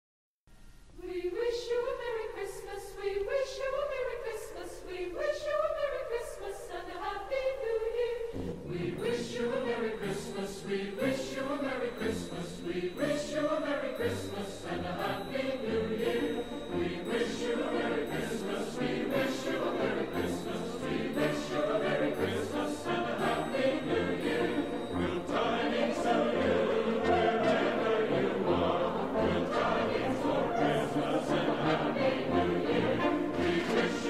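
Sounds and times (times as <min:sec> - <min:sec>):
choir singing: 0:01.0 - 0:34.0.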